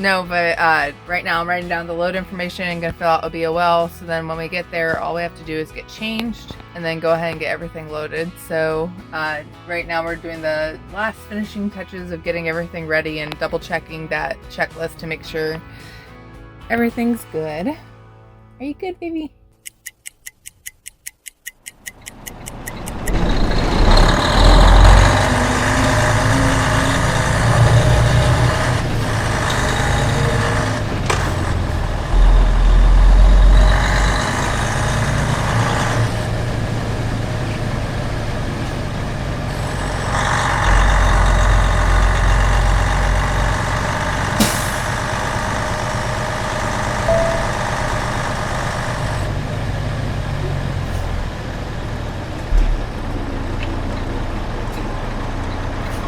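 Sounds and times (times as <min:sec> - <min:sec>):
heavy truck engine and road noise: 0:00.0 - 0:16.3, 0:21.7 - 0:56.0.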